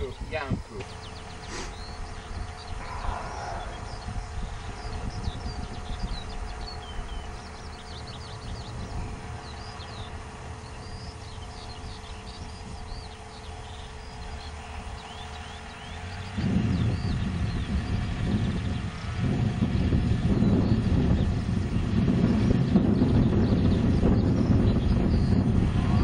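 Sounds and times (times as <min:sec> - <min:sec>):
loud low rumble: 0:00.0 - 0:26.0
songbirds chirping: 0:00.0 - 0:26.0
wind rumble on microphone: 0:00.0 - 0:26.0.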